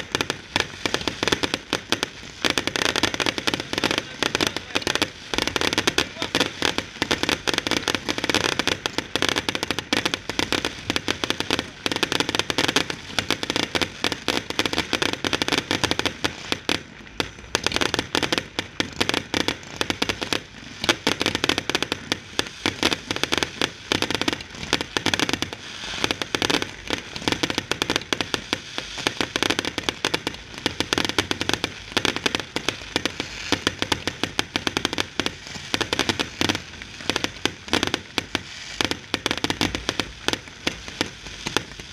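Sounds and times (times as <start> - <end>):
fireworks bursting and crackling: 0.0 - 41.9.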